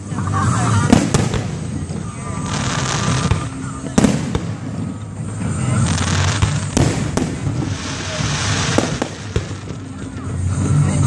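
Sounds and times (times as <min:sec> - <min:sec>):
crackling hiss of fireworks: 0:00.0 - 0:11.0
fireworks bangs: 0:00.7 - 0:10.5.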